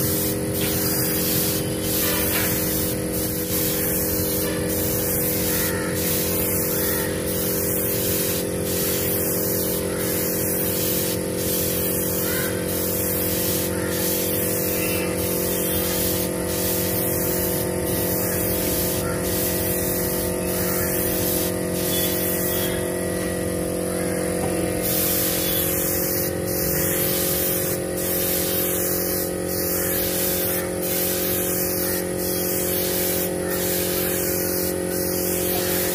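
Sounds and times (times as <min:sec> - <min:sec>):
air compressor hum: 0:00.0 - 0:35.9
spray gun hissing: 0:00.0 - 0:35.9.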